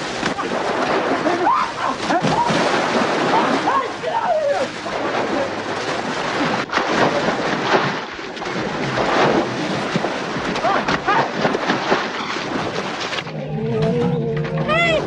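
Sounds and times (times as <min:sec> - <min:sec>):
heavy water splashing: 0:00.0 - 0:13.4.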